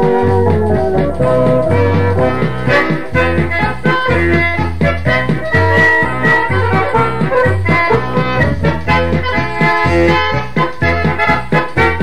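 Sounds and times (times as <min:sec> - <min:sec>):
polka music with accordion: 0:00.0 - 0:12.0.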